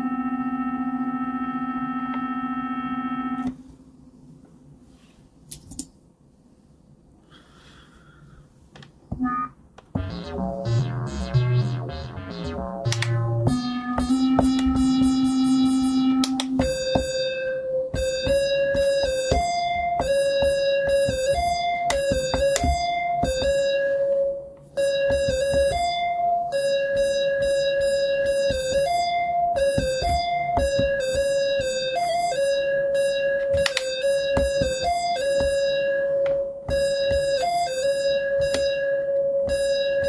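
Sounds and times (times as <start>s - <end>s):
synthesizer tones: 0.0s - 3.5s, 9.1s - 40.0s.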